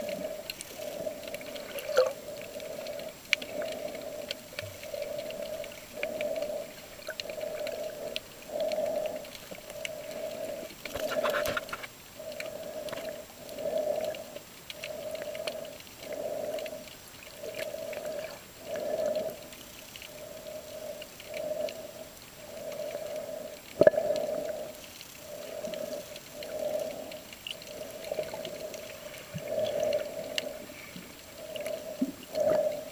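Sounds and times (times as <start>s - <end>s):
faint clicks: 0.0s - 32.9s
underwater hum: 0.0s - 32.9s.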